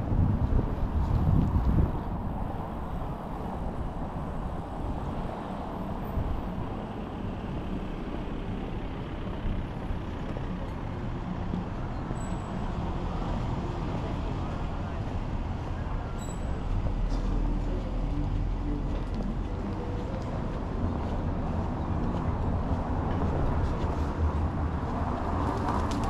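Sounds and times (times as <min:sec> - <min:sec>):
hum of traffic: 0:00.0 - 0:26.0
low vehicle rumble: 0:00.0 - 0:26.0.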